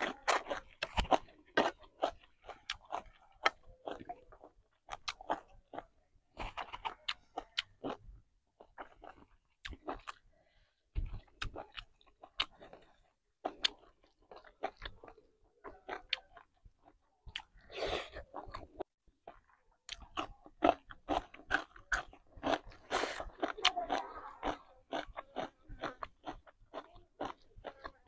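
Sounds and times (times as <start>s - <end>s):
person chewing and crunching food: 0.0s - 28.0s.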